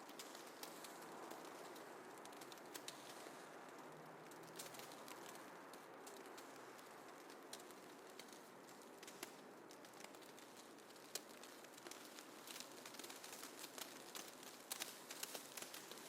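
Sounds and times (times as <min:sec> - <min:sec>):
light ticks: 0:00.1 - 0:16.0.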